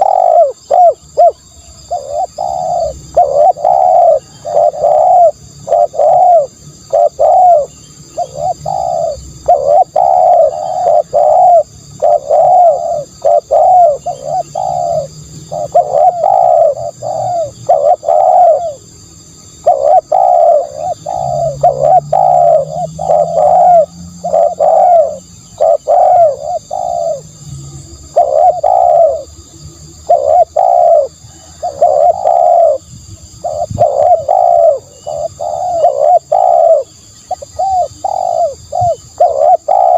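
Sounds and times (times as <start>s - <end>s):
dove cooing: 0.0s - 27.4s, 28.0s - 39.9s.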